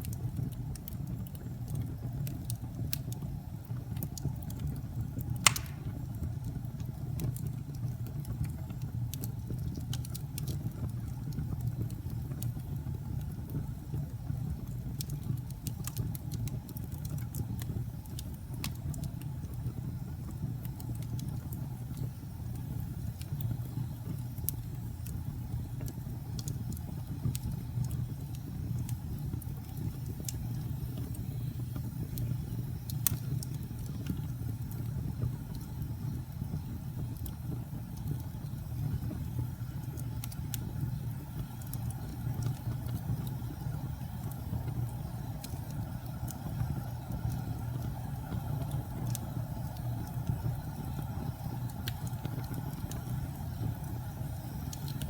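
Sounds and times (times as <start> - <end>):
fire crackling and popping: 0.0 - 55.0
fire roaring: 0.0 - 55.0.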